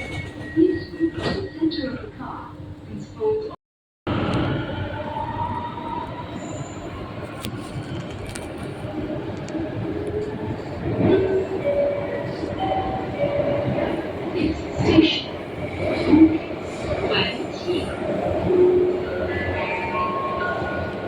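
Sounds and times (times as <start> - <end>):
train rumble and wheel noise: 0.0 - 21.0.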